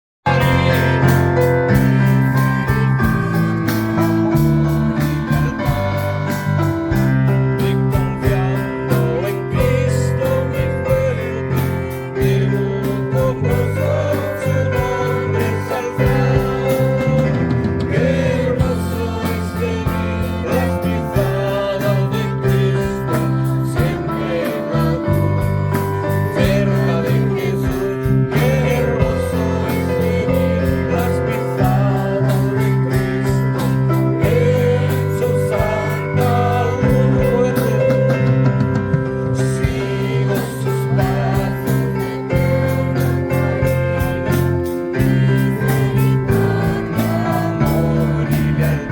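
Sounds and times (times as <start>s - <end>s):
gospel song with guitar and bass: 0.2s - 48.9s.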